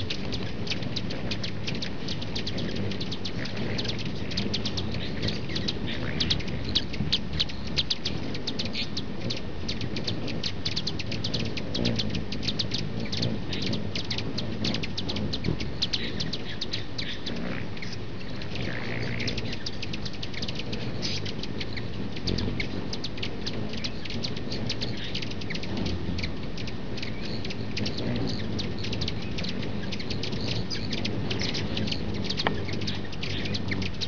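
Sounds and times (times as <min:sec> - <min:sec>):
hummingbirds chirping: 0:00.0 - 0:34.0
steady low noise: 0:00.0 - 0:34.0.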